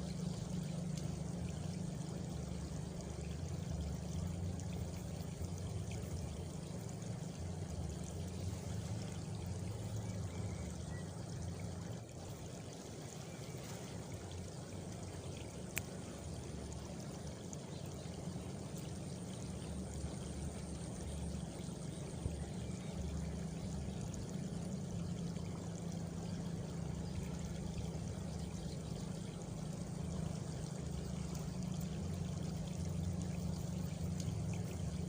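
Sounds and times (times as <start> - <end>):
water rushing and pouring: 0.0 - 35.0.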